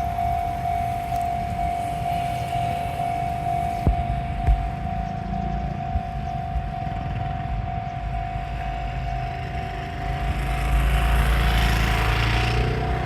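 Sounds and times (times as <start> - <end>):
level-crossing bell ringing: 0.0 - 10.7
train passing: 0.0 - 13.0.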